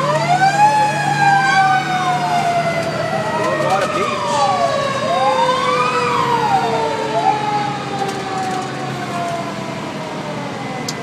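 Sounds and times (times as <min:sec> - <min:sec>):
fire truck siren wailing: 0:00.0 - 0:11.0
siren tone winding down: 0:00.0 - 0:11.0.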